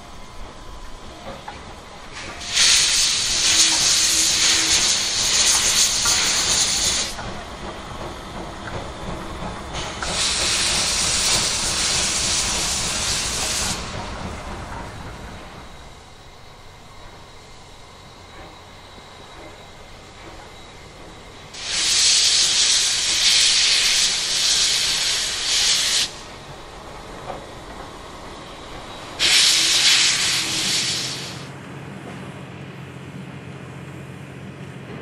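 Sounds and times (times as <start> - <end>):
steam locomotive hissing: 0.0 - 31.6
low rumble of train: 0.0 - 35.0.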